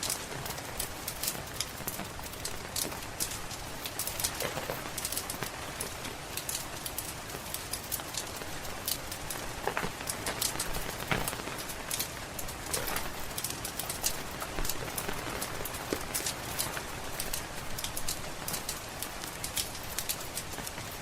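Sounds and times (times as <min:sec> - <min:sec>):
steady rain hiss: 0:00.0 - 0:21.0
wood fire crackling: 0:00.0 - 0:21.0.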